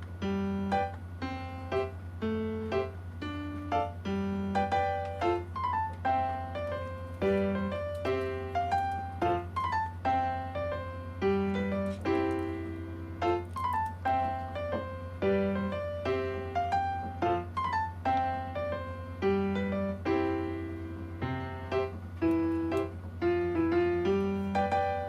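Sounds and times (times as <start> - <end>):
steady low hum: 0.0 - 25.0
keyboard melody: 0.2 - 25.0.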